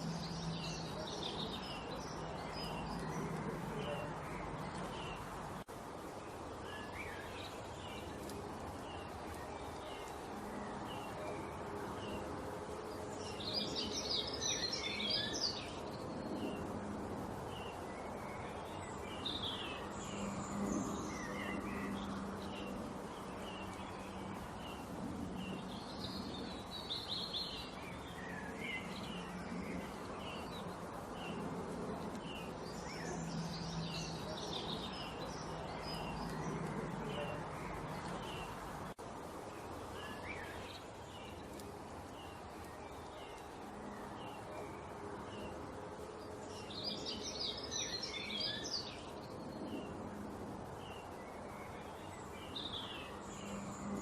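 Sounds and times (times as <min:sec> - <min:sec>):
songbirds chirping and twittering: 0:00.0 - 0:54.0
steady background noise: 0:00.0 - 0:54.0.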